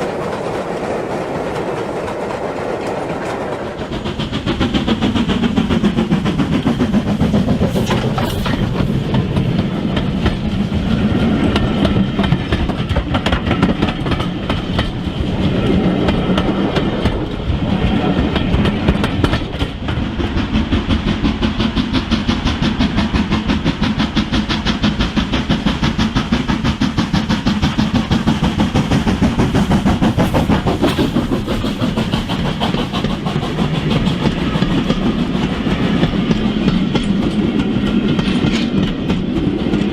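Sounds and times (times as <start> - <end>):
wheels clicking over rail joints: 0.0 - 39.9.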